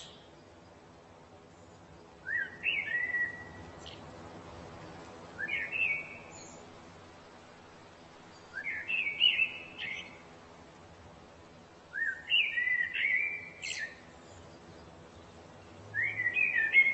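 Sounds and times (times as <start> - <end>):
faint background hiss: 0.0 - 16.9
songbird singing: 0.0 - 16.9.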